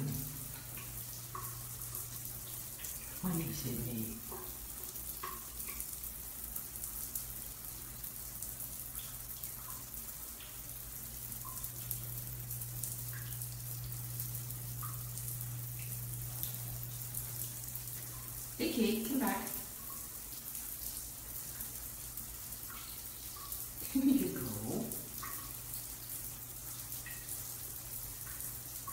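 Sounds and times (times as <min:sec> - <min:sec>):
shower spray on tiles: 0:00.0 - 0:28.9.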